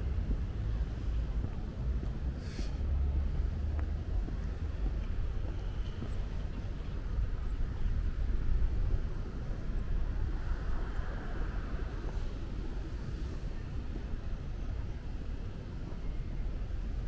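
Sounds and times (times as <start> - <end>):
distant traffic: 0.0 - 17.0.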